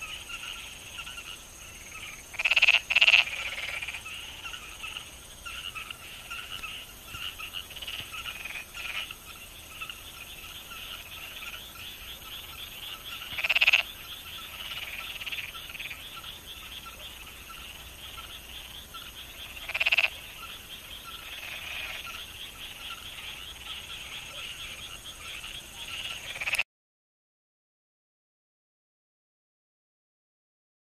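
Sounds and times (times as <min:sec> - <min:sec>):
frogs croaking in chorus: 0:00.0 - 0:26.6
loud frog call: 0:00.0 - 0:26.6.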